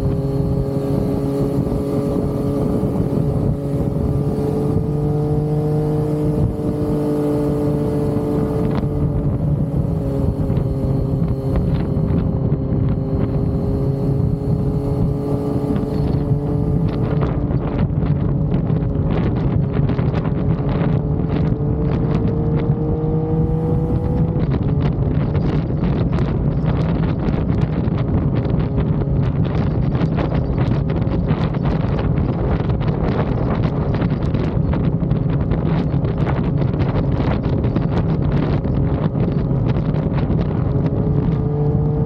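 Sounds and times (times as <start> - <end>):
motorcycle engine cruising: 0.0 - 42.0
wind rushing: 0.0 - 42.0.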